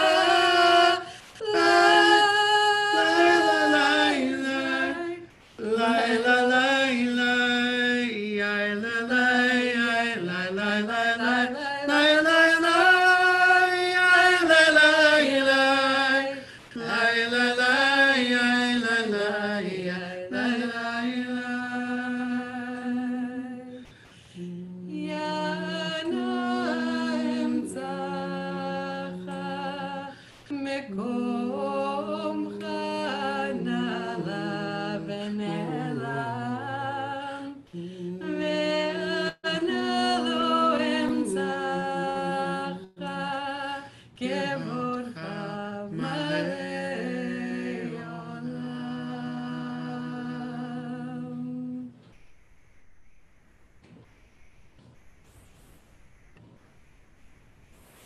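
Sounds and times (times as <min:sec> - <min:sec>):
person singing prayer unaccompanied: 0:00.0 - 0:52.1.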